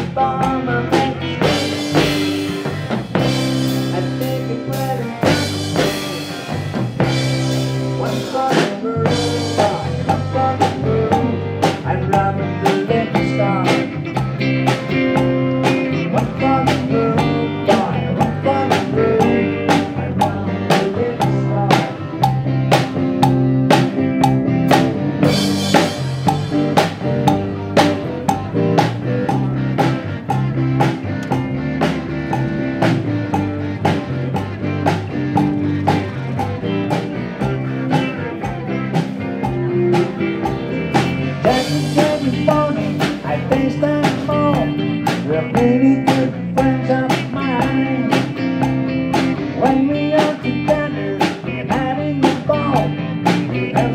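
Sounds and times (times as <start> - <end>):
music with drum beat and bass: 0.0 - 53.9.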